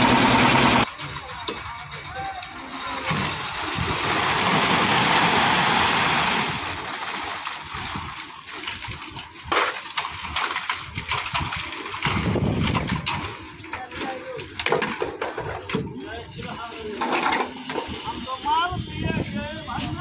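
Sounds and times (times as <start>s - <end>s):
wet concrete sloshing down metal chute: 1.8s - 18.2s.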